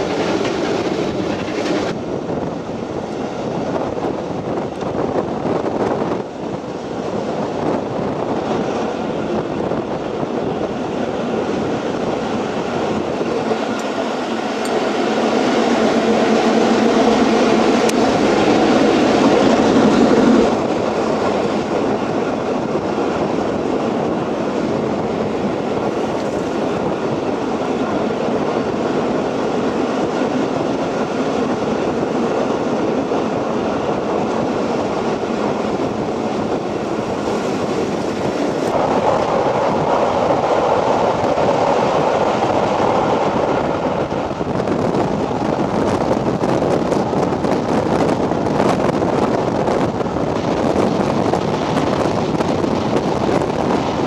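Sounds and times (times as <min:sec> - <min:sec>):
train rumbling through tunnel: 0:00.0 - 0:54.0.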